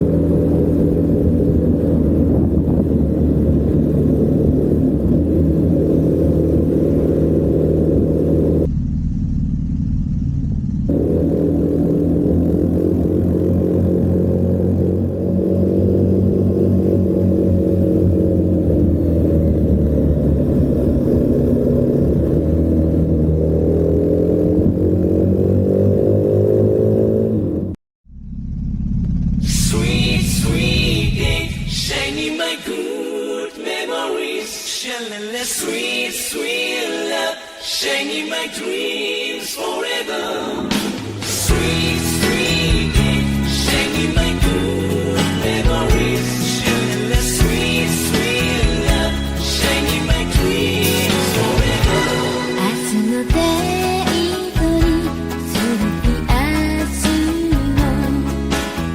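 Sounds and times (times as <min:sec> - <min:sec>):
motorcycle engine droning: 0:00.0 - 0:33.2, 0:39.9 - 0:58.9.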